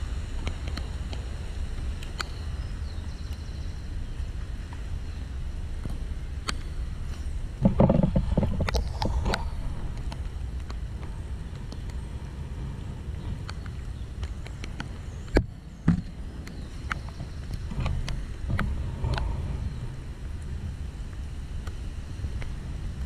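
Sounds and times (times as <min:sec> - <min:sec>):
rain on microphone: 0:00.0 - 0:23.0.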